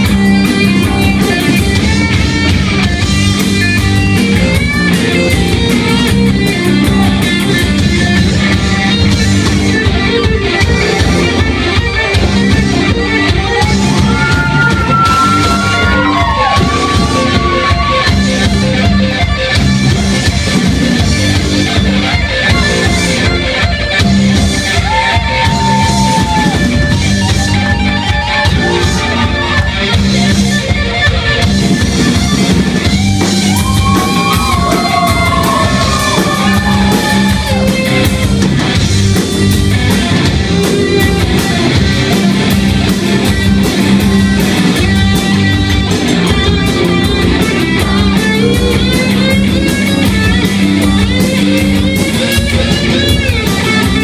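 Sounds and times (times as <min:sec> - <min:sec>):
bass guitar: 0:00.0 - 0:54.0
drum kit: 0:00.0 - 0:54.0
electric guitar solo: 0:00.0 - 0:54.0.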